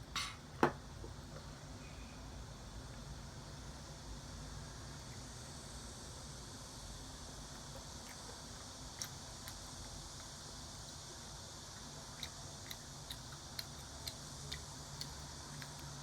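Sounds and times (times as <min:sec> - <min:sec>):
low background hiss and hum: 0:00.0 - 0:16.0.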